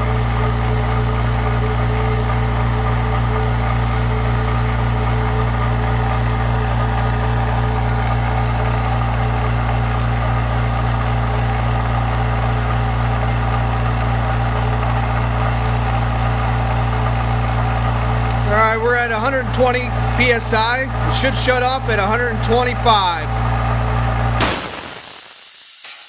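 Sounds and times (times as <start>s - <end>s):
air compressor humming: 0.0s - 26.0s.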